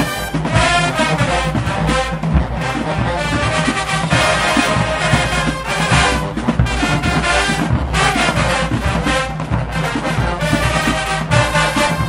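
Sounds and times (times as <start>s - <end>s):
brass horns playing: 0.0s - 12.0s
drum strikes: 0.0s - 12.0s.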